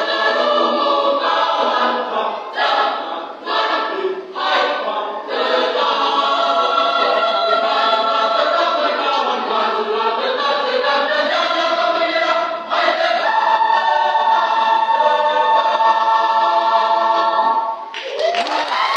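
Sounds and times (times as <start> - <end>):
choir singing a cappella: 0.0 - 18.0.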